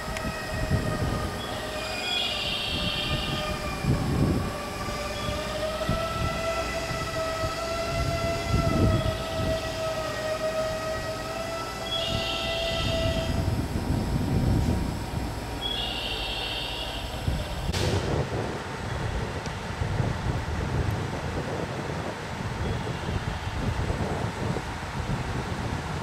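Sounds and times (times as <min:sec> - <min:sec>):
diesel railcar whine: 0:00.0 - 0:26.0
low engine rumble: 0:00.0 - 0:26.0.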